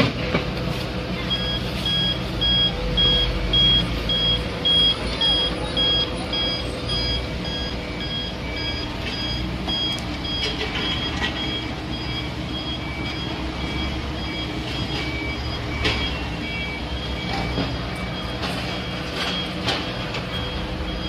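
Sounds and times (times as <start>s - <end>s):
truck engine running: 0.0s - 21.0s
truck reversing alarm beeping: 1.0s - 21.0s.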